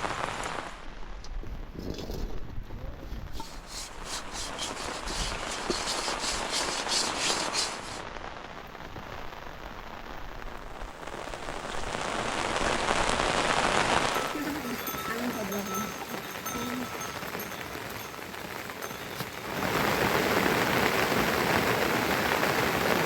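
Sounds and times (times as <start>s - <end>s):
rain falling: 0.0s - 1.8s, 3.2s - 23.0s
crackle of raindrops on a surface: 0.0s - 23.0s.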